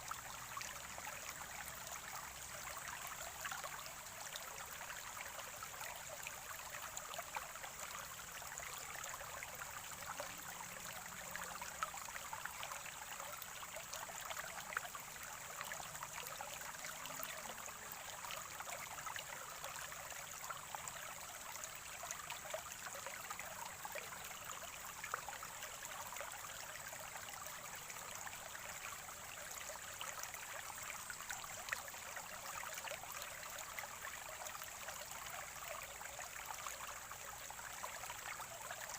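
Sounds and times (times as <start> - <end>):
spring water gurgling: 0.0 - 38.9.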